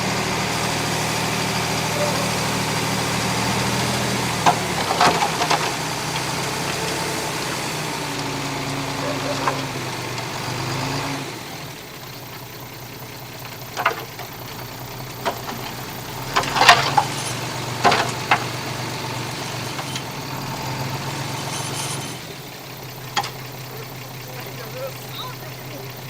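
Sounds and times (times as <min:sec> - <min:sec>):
bulldozer diesel engine idling: 0:00.0 - 0:26.0.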